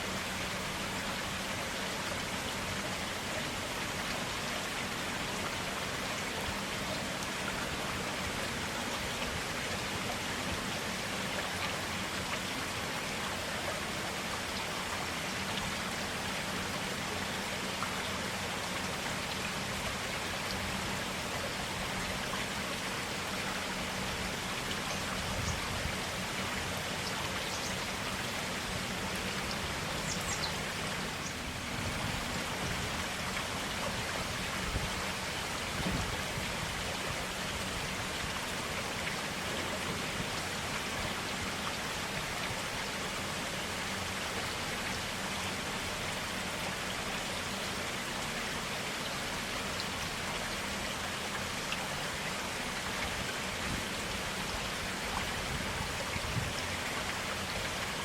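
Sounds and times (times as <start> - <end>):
forest stream rushing: 0.0 - 58.0.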